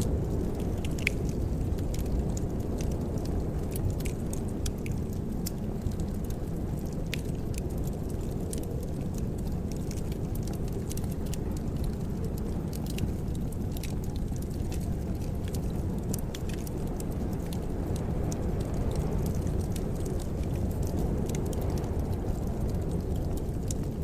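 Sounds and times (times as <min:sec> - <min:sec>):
fire crackling and popping: 0:00.0 - 0:24.0
low roar of flames: 0:00.0 - 0:24.0.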